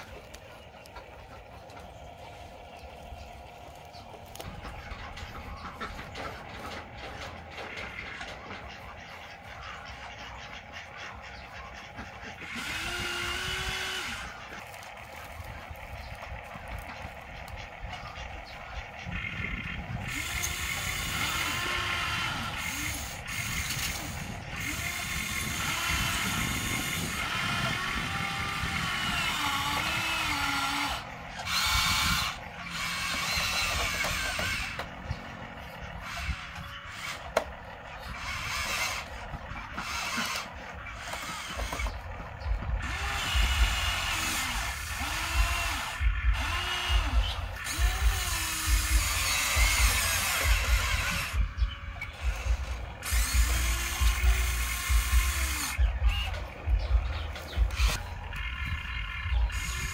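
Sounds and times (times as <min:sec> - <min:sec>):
toy electric motors whining: 0:00.0 - 0:59.9.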